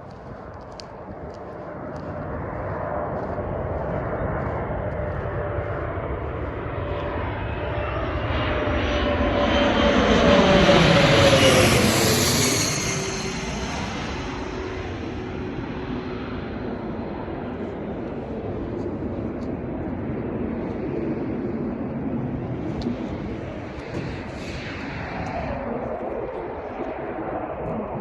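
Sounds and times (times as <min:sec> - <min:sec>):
airplane passing overhead: 0:00.0 - 0:28.0.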